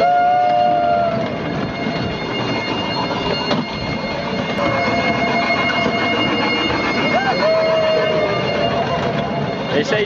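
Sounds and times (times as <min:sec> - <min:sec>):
miniature train running on track: 0:00.0 - 0:10.0.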